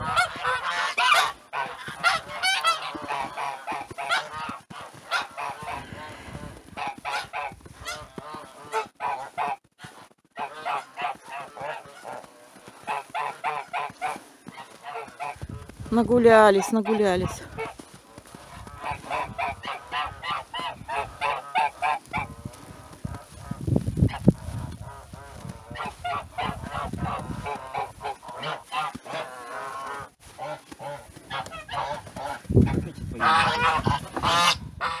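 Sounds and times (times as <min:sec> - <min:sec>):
geese honking: 0:00.0 - 0:35.0.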